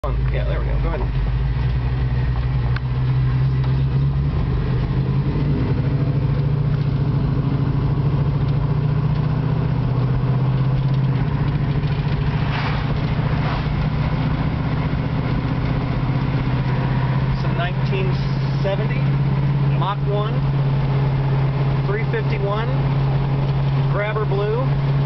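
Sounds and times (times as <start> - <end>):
car engine running inside cabin: 0.0 - 25.0.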